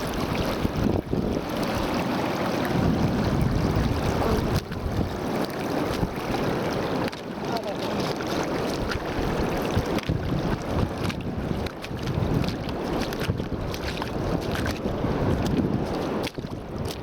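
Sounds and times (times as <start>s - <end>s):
person wading through water: 0.0s - 17.0s
shallow stream rushing: 0.0s - 17.0s
wind buffeting microphone: 0.0s - 17.0s.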